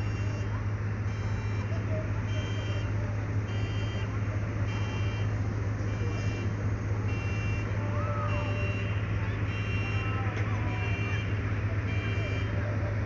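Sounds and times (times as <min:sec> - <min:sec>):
reversing alarm beeping: 0:00.0 - 0:06.5, 0:07.1 - 0:12.6
heavy machine engine humming: 0:00.0 - 0:13.0.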